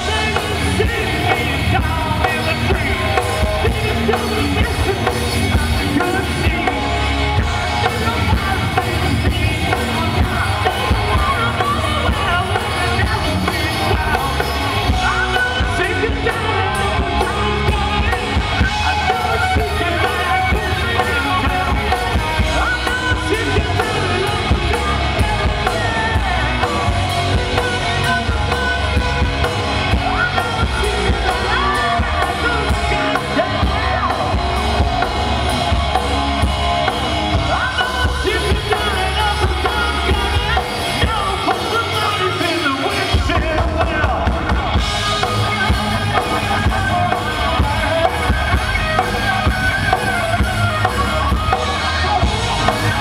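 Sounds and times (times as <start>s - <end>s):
bass guitar: 0.0s - 53.0s
distorted electric guitars: 0.0s - 53.0s
drum kit: 0.0s - 53.0s
man singing: 0.0s - 53.0s.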